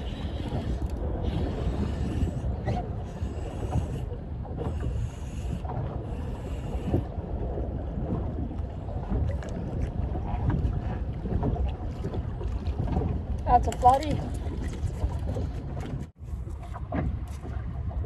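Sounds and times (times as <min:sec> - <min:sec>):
water lapping at boat hull: 0:00.0 - 0:18.0
wind buffeting microphone: 0:00.0 - 0:18.0.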